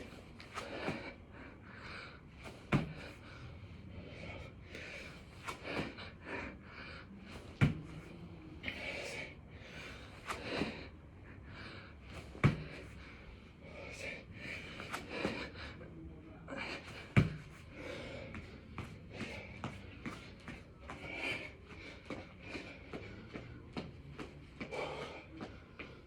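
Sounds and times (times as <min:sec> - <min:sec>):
person breathing hard: 0:00.0 - 0:23.6, 0:24.6 - 0:26.0.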